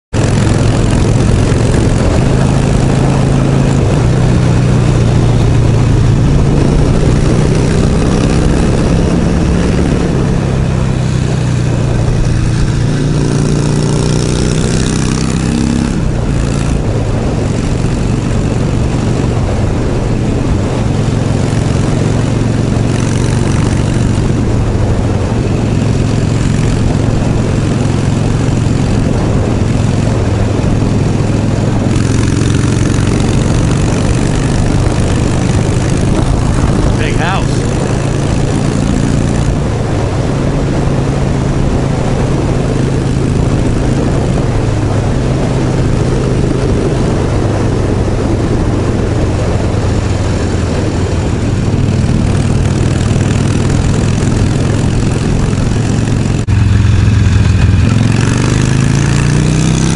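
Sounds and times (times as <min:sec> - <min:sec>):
motorcycle engine cruising: 0:00.1 - 0:59.9
wind rushing: 0:00.1 - 0:59.9.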